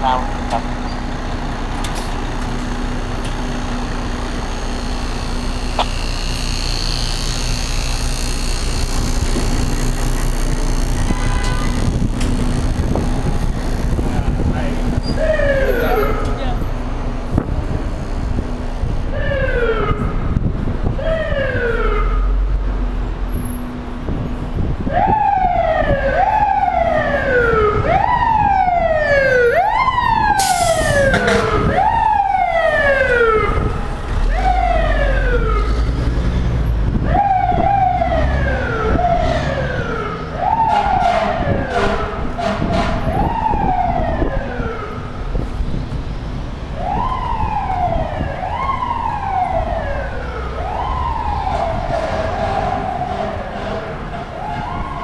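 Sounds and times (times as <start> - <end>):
street traffic rumble: 0.0 - 55.0
fire engine siren whooping: 1.6 - 16.7, 18.9 - 22.6, 24.6 - 45.7, 46.7 - 55.0.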